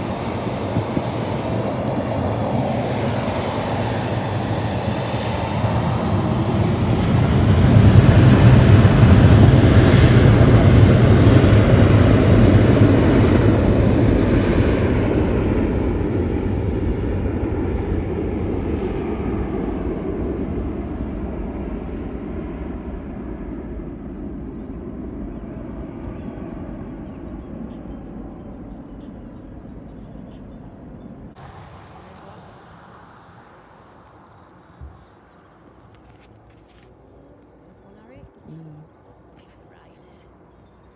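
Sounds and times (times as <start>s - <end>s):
airliner engines passing: 0.0s - 40.9s.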